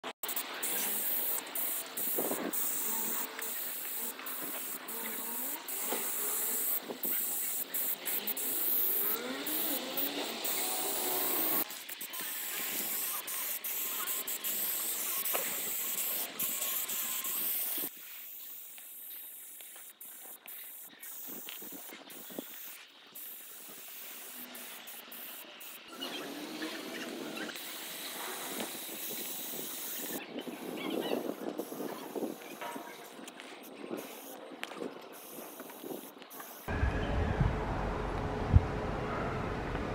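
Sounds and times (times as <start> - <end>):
spray paint cans hissing: 0.0 - 36.7.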